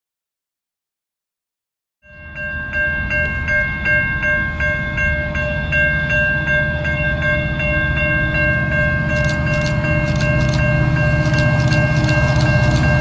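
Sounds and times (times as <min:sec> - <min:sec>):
railroad bell ringing: 0:02.0 - 0:13.0
train rumbling: 0:02.1 - 0:13.0.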